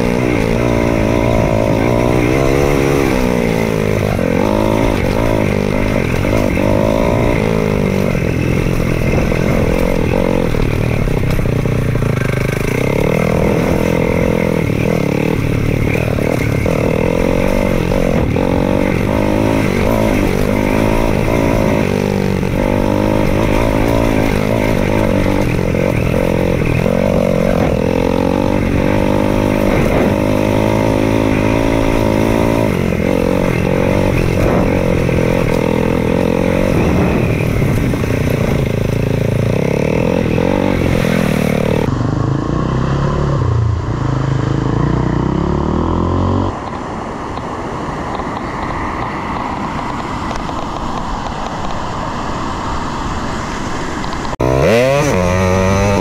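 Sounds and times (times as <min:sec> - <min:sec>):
dirt bike engine revving: 0:00.0 - 0:46.7, 0:54.3 - 0:56.0.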